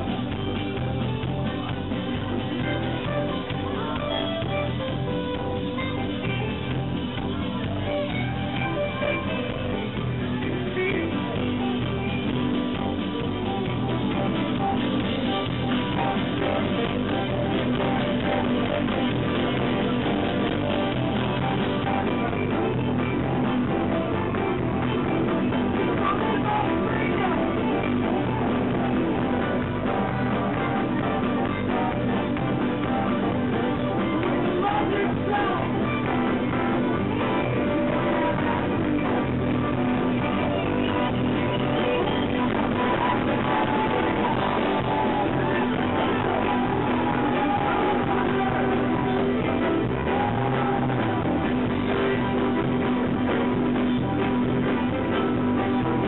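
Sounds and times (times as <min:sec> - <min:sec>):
fiddle: 0:00.0 - 0:46.6
acoustic guitar: 0:00.0 - 0:56.0
electric guitar: 0:00.0 - 0:56.0.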